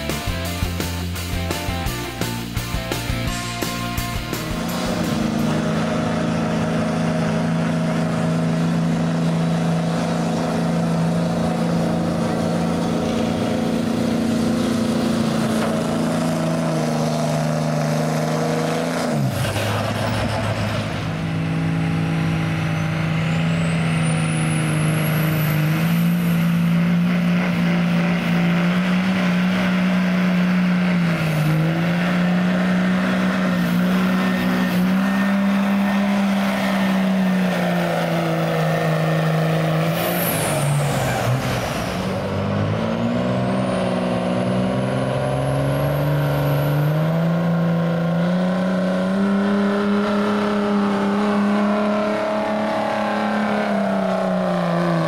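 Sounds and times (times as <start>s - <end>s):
diesel engine droning at full throttle: 0.0s - 55.0s.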